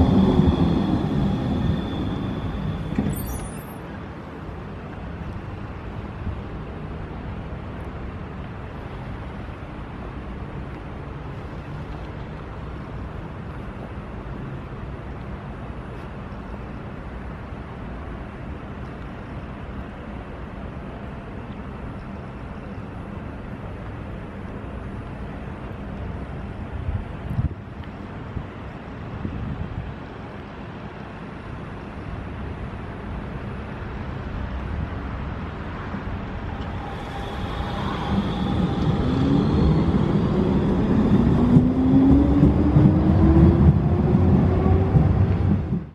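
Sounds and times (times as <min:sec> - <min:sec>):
tram equipment humming: 0:00.0 - 0:11.8, 0:12.4 - 0:45.9.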